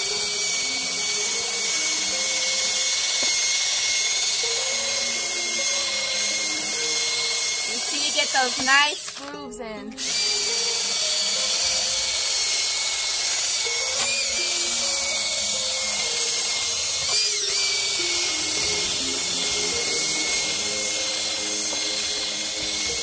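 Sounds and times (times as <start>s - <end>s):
background music: 0.0s - 23.0s
drill with wire brush scouring wood: 0.0s - 23.0s.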